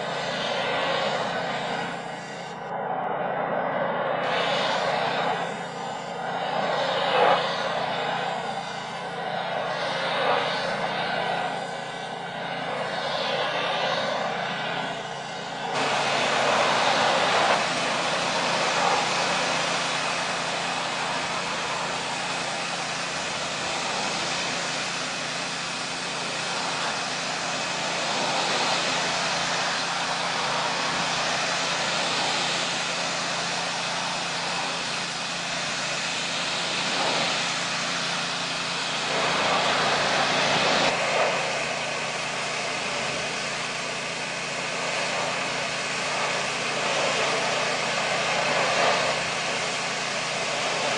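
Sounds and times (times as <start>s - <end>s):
pressure washer spraying: 0.0s - 2.5s, 4.2s - 50.9s.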